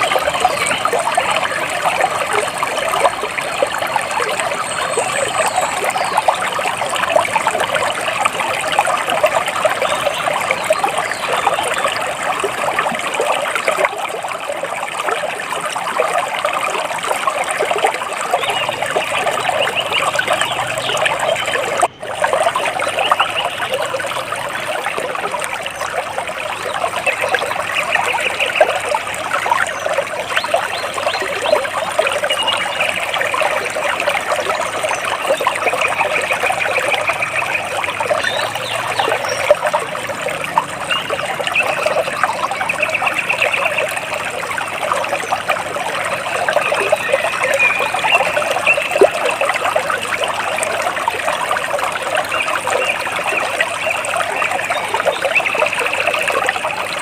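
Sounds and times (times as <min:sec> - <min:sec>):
water splashing and trickling: 0:00.0 - 0:57.0.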